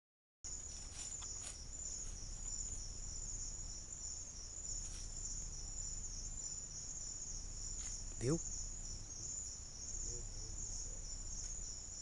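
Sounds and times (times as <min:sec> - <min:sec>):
crickets trilling: 0:00.5 - 0:12.0.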